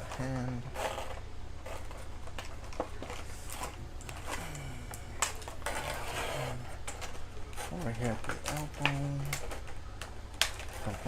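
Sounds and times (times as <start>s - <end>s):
plastic packaging clicks and rustles: 0.0s - 6.0s, 6.8s - 11.0s
steady low hum: 0.0s - 11.0s.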